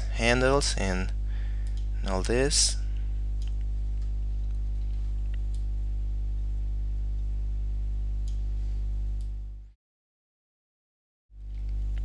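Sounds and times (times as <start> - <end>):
steady low hum: 0.0 - 9.8, 11.4 - 12.0.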